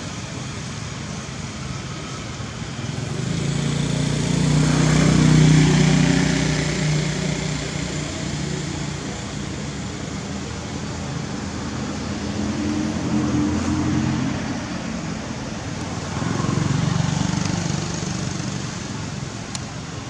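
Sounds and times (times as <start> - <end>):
traffic hum: 0.0 - 20.0
vehicle engine passing by: 2.9 - 19.4.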